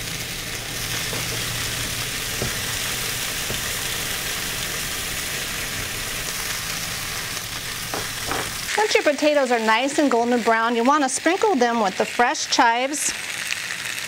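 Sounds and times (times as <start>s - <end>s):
potatoes sizzling in oil: 0.0s - 14.0s.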